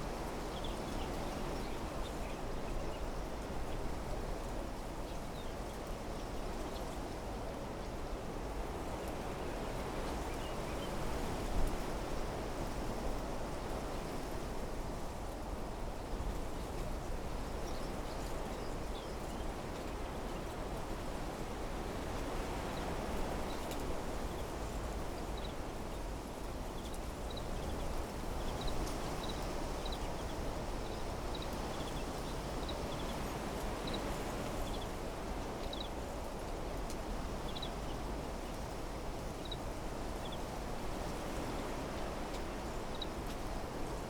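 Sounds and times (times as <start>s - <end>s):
wind rustling leaves: 0.0s - 44.0s.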